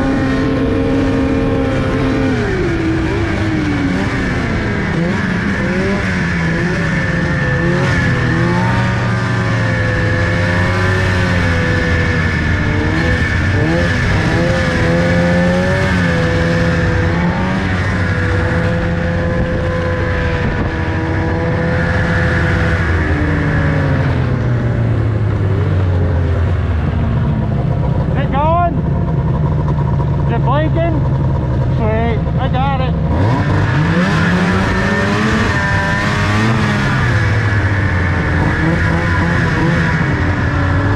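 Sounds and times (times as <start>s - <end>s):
vehicle engine revving: 0.0s - 40.9s.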